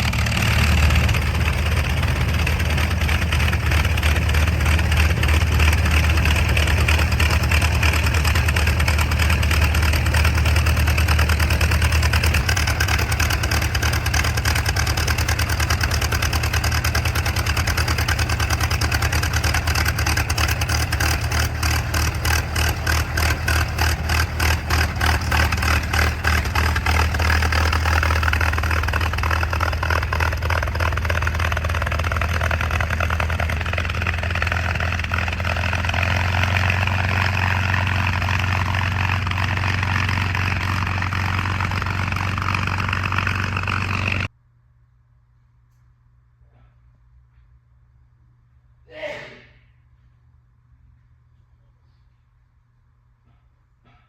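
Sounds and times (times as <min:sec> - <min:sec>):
aircraft engine running: 0:00.0 - 0:44.3.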